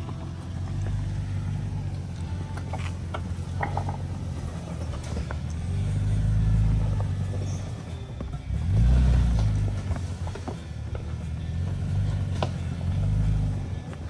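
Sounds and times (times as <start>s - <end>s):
truck engine at low revs: 0.0s - 14.0s.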